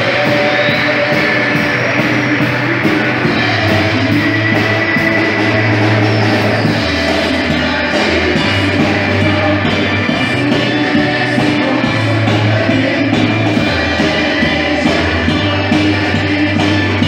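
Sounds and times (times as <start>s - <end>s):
live band playing pop song: 0.0s - 17.0s.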